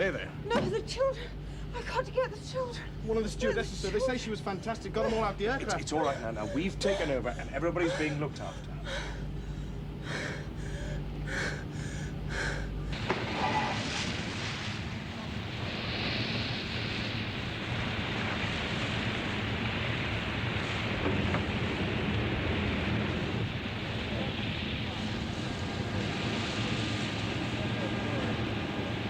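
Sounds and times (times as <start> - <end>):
wind: 0.0 - 29.0
sea noise: 2.5 - 29.0.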